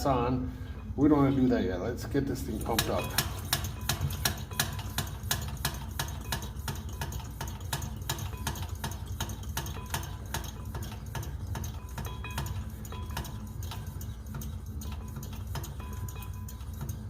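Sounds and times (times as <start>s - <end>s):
hand pump clicking: 2.6s - 17.0s.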